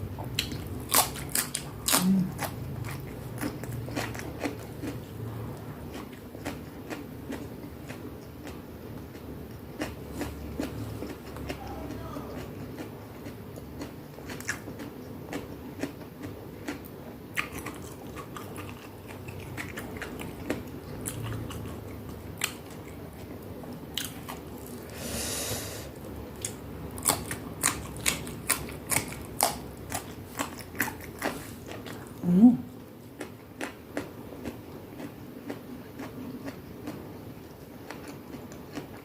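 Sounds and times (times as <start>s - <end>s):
person chewing crisp food: 0.2s - 32.2s, 33.0s - 39.0s.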